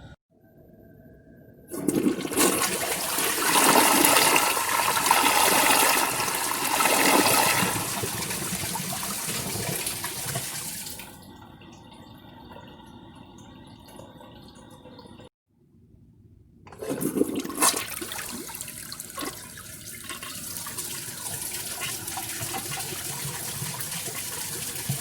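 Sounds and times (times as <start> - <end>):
toilet flushing: 1.7 - 15.3, 16.7 - 25.0.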